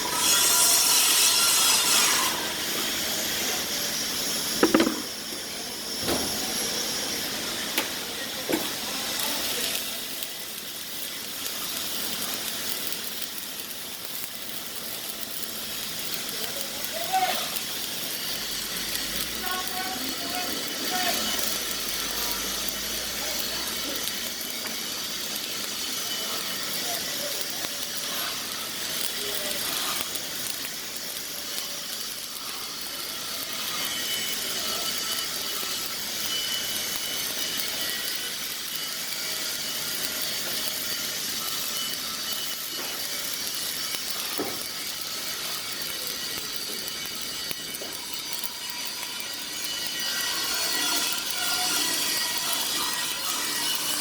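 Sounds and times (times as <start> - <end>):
welding arc hissing: 0.0 - 54.0.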